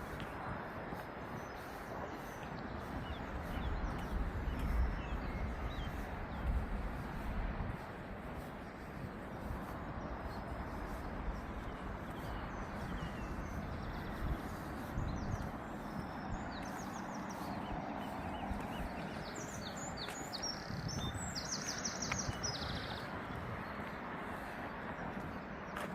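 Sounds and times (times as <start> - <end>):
small birds chirping: 0.0 - 25.9
wind rumble on microphone: 0.0 - 25.9.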